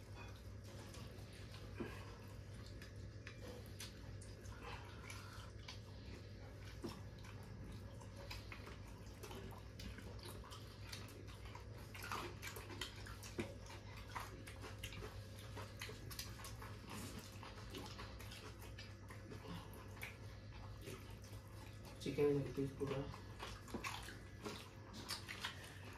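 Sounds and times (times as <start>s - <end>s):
chewing: 0.0s - 25.9s
steady low hum: 0.0s - 25.9s.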